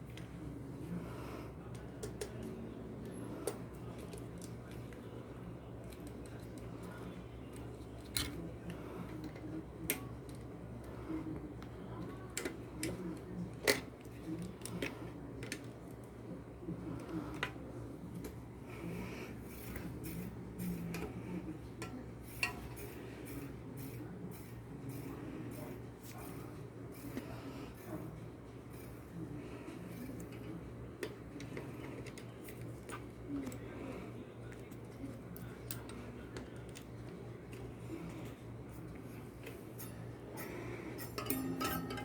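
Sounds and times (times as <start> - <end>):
low steady hum: 0.0 - 42.0
soft fiddling sounds: 0.0 - 42.0.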